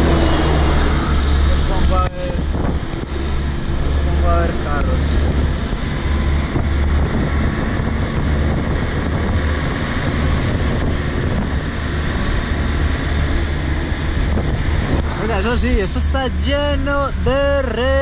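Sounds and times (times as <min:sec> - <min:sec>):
road noise: 0:00.0 - 0:18.0
truck engine pulling hard: 0:00.0 - 0:18.0
wind noise: 0:00.0 - 0:18.0.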